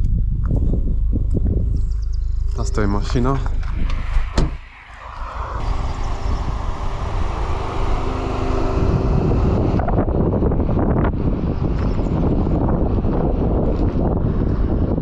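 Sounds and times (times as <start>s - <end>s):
rough engine rumble: 0.0s - 15.0s
wind buffeting microphone: 0.0s - 15.0s
car engine humming: 0.4s - 15.0s.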